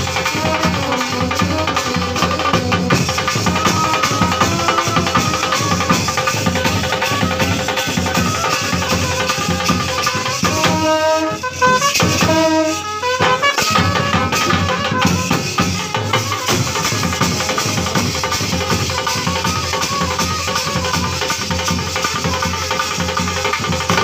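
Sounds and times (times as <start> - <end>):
marching bass drums: 0.0 - 24.0
trumpets playing: 0.0 - 24.0.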